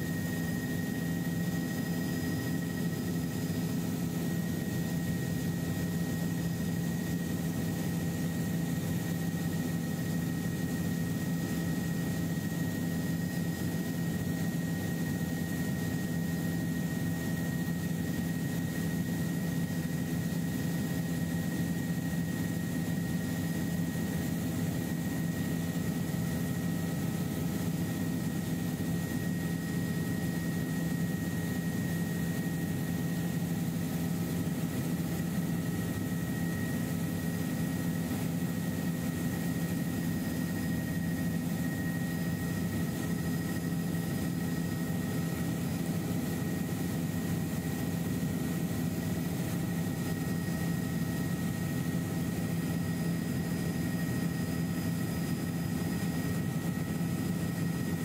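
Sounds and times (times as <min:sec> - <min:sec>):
helicopter engine and rotors: 0:00.0 - 0:58.0.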